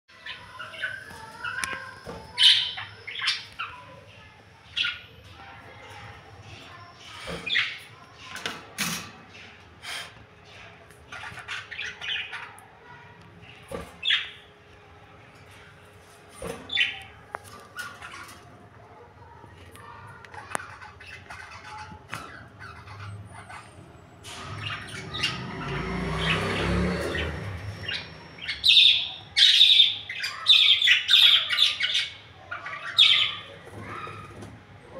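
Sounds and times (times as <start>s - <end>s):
lovebirds chirping and squawking: 0.1s - 14.6s, 15.2s - 34.9s.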